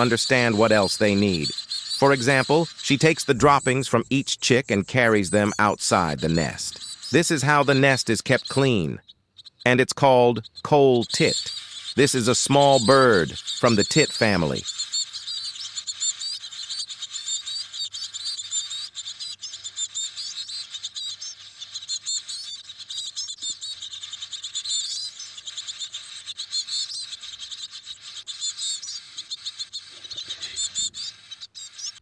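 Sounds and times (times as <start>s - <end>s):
nestlings begging chirps: 0.0s - 32.0s.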